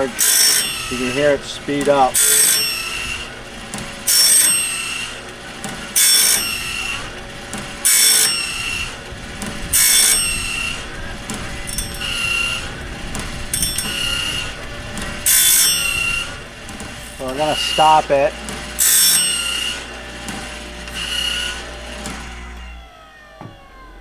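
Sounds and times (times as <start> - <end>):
blade sharpener grinding: 0.0 - 24.0
motor humming: 0.0 - 24.0.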